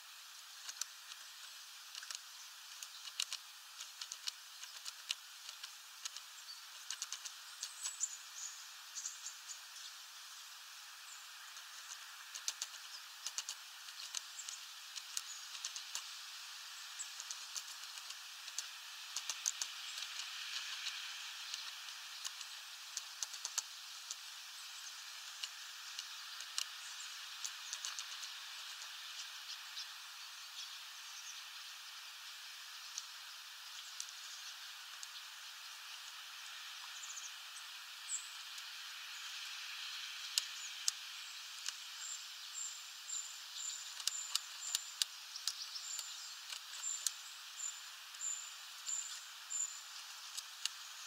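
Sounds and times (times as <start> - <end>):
outdoor hiss: 0.0 - 51.0
bird pecking seeds: 0.4 - 9.2, 11.0 - 37.2, 38.1 - 51.0.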